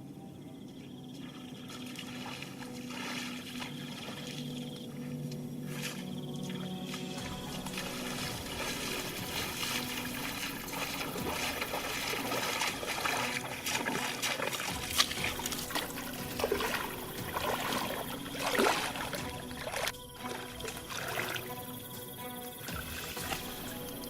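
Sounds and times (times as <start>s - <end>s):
water trickling and splashing: 0.7s - 24.0s.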